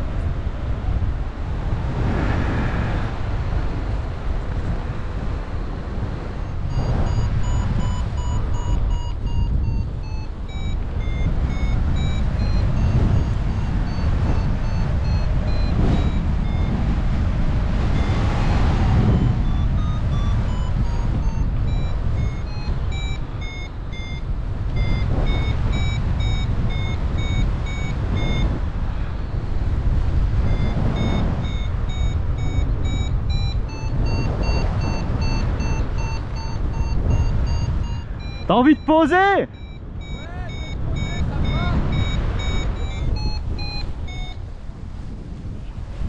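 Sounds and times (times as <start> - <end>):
wind on microphone: 0.0 - 38.6, 39.5 - 46.0
variometer beeping: 5.2 - 45.6.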